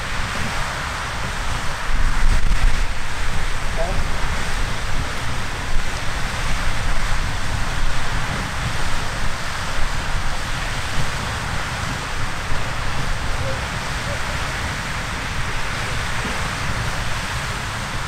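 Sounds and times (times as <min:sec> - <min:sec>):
geyser water jet rushing hiss: 0:00.0 - 0:18.0
spray falling into river: 0:00.0 - 0:18.0
wind buffeting microphone: 0:00.0 - 0:18.0.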